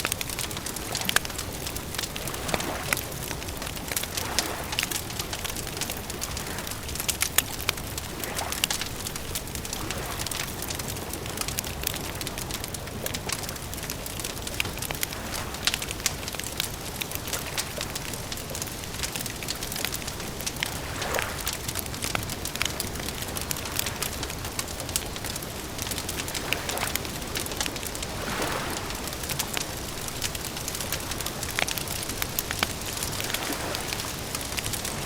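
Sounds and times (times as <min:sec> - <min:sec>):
campfire crackling: 0:00.0 - 0:35.0
fire popping and snapping: 0:00.0 - 0:35.0.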